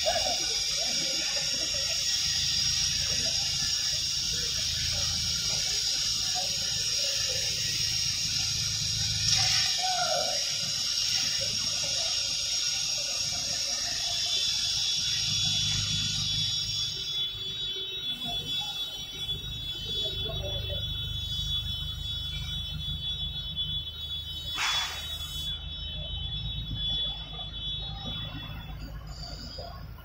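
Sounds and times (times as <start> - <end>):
gas cutting torch hissing: 0.0 - 25.8
high-pitched whistle: 0.0 - 30.0.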